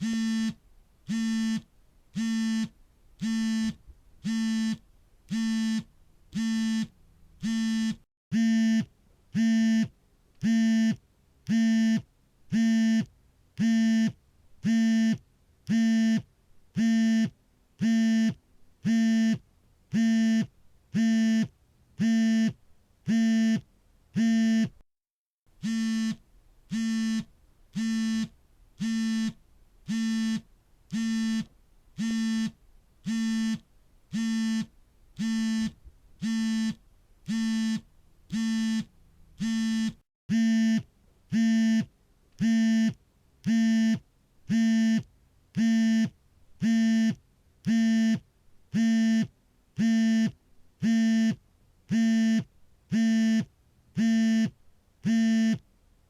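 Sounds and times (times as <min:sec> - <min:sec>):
phone vibration buzzing: 0:00.0 - 0:16.2, 0:25.6 - 0:48.2, 0:48.8 - 0:55.6.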